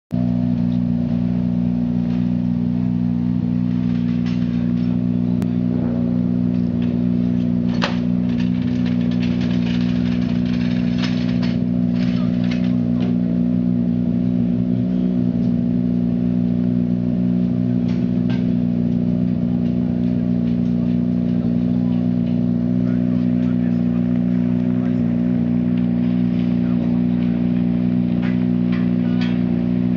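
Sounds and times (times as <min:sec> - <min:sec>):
rally car engine idling: 0:00.1 - 0:29.9.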